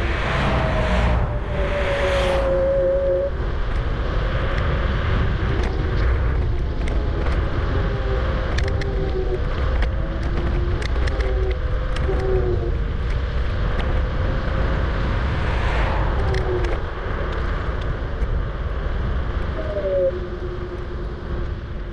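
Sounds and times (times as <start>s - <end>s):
road noise: 0.0s - 21.9s
wind on microphone: 0.0s - 21.9s.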